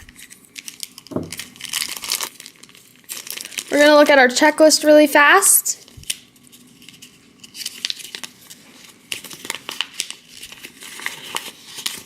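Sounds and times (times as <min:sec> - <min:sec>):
plastic and paper crinkling: 0:00.0 - 0:04.4, 0:05.8 - 0:12.0.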